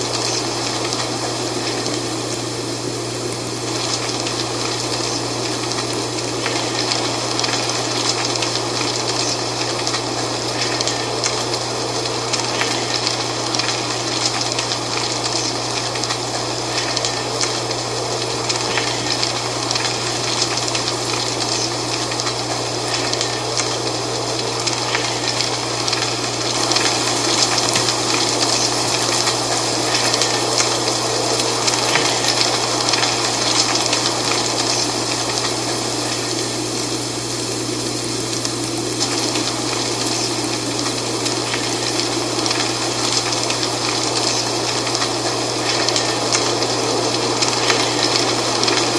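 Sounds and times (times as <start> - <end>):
dry leaves rustling in wind: 0.0 - 48.9
steady low hum: 0.0 - 48.9.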